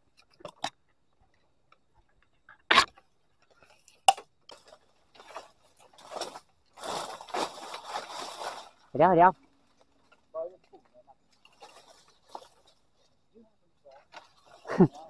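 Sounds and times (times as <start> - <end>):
rustling: 2.8 - 15.0.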